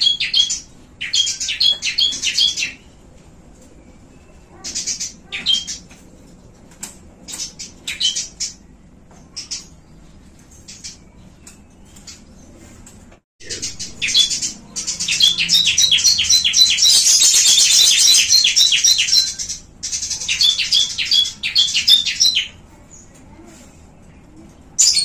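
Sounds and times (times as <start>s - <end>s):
cage birds chirping: 0.0s - 25.0s.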